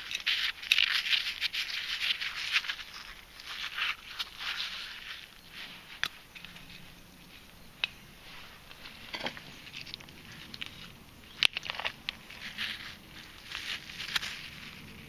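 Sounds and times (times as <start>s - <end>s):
gravel clicking and scraping: 0.0s - 15.0s.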